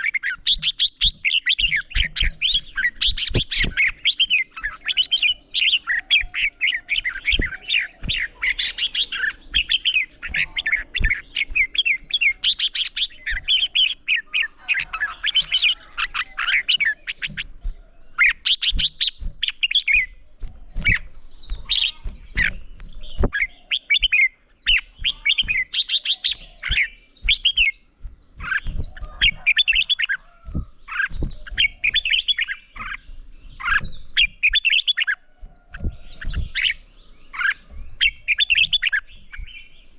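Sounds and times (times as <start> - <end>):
bird warbling song: 0.0 - 39.9
sharp bird clicks: 0.0 - 39.9.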